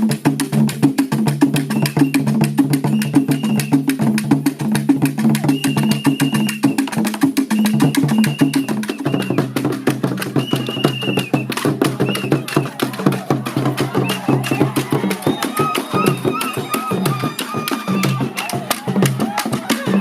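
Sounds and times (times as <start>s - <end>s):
percussion-driven music: 0.0s - 20.0s.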